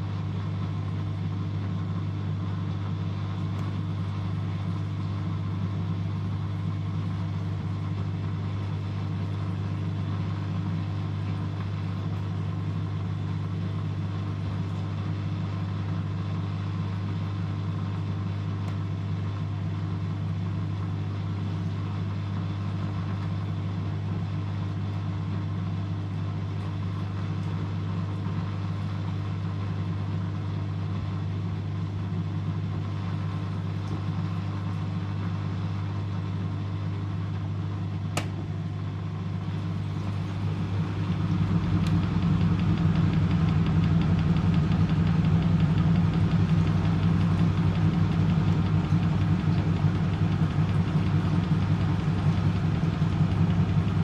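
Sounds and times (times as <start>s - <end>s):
washing machine humming: 0.0s - 54.0s.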